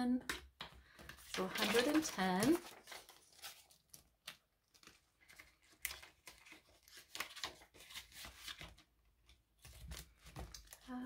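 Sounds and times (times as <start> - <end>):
paper rustling and crinkling: 0.9 - 11.0.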